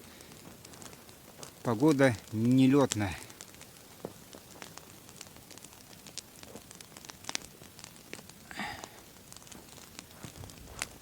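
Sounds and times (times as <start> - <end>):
campfire crackling and popping: 0.0 - 11.0
fire hiss: 0.0 - 11.0.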